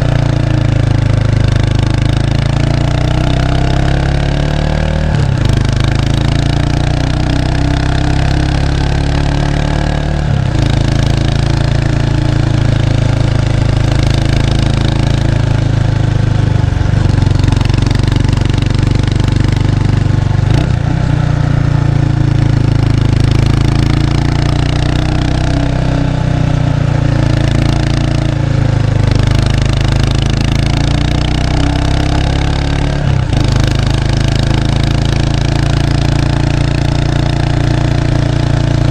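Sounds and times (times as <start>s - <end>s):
motorcycle exhaust running: 0.0s - 38.9s.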